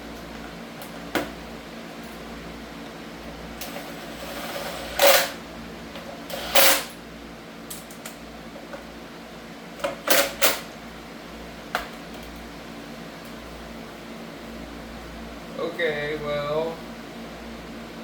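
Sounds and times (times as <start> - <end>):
shop hum: 0.0 - 18.0.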